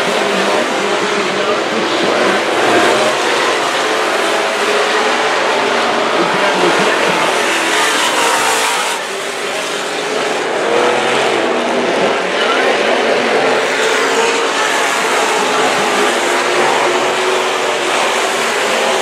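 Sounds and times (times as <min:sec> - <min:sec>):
stock car engines racing: 0:00.0 - 0:19.0.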